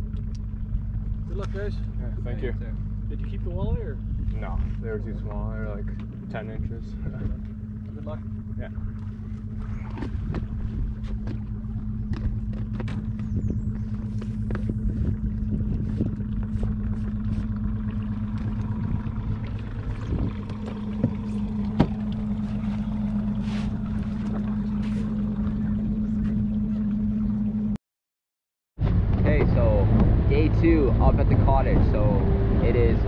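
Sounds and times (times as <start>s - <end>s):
boat motor idling: 0.0s - 27.8s, 28.8s - 33.0s.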